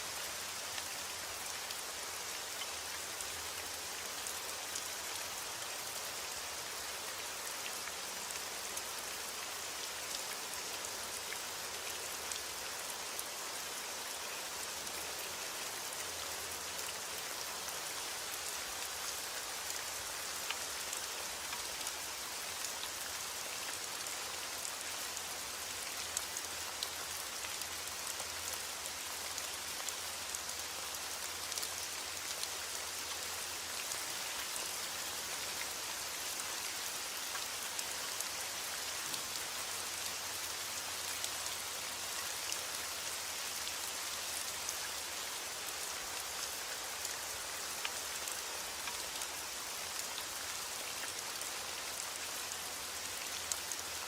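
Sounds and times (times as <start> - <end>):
rain pattering: 0.2 - 54.0.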